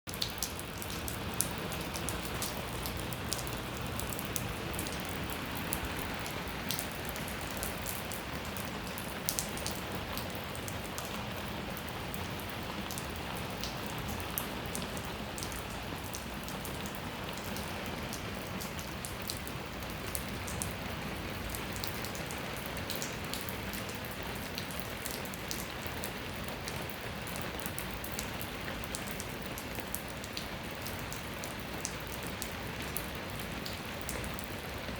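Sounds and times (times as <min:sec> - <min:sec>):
raindrops ticking on hard surface: 0:00.1 - 0:34.9.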